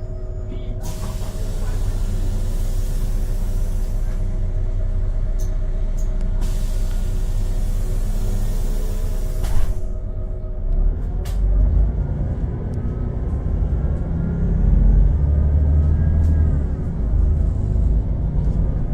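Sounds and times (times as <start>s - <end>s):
bus diesel engine rumbling: 0.0s - 18.9s.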